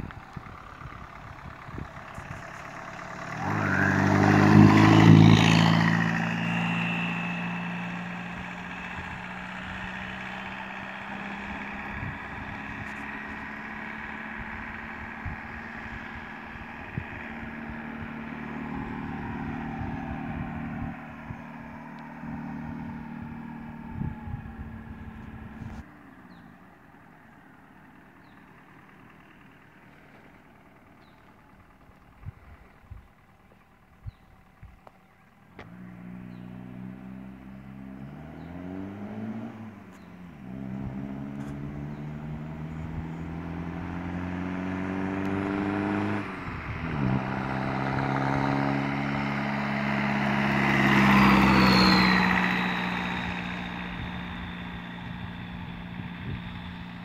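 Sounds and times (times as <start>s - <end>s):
pickup truck driving past: 0.0s - 31.9s, 35.6s - 57.0s
tyres on road: 0.0s - 57.0s.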